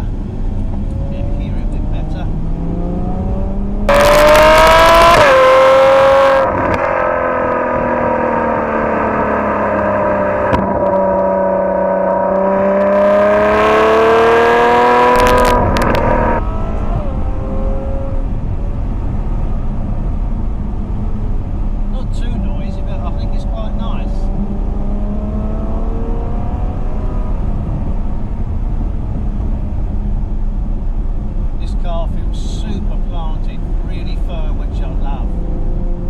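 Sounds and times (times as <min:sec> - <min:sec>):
loud car engine exhaust: 0:00.0 - 0:36.0
road rumble: 0:00.0 - 0:36.0.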